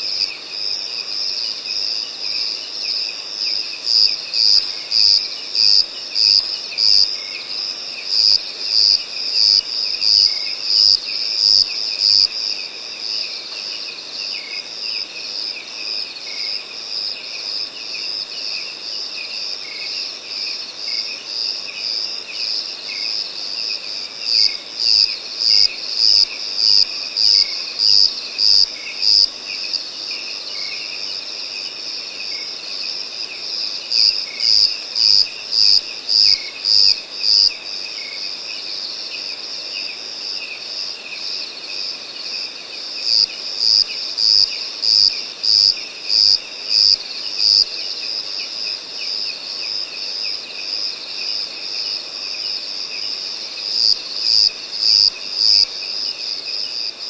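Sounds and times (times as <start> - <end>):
crickets and insects trilling: 0.0 - 57.0.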